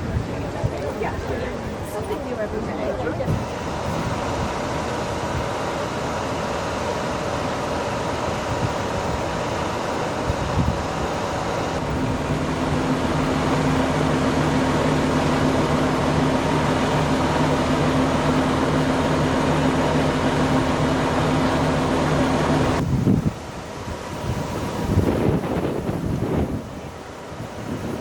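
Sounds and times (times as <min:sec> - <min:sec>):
engine humming with high whine: 0:00.0 - 0:28.0.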